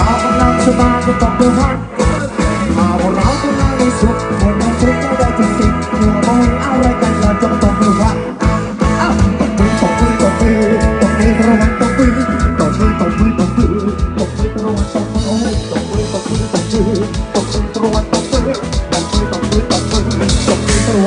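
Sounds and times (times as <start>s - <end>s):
drum kit steady beat: 0.0s - 21.0s
electric guitar chords: 0.0s - 21.0s.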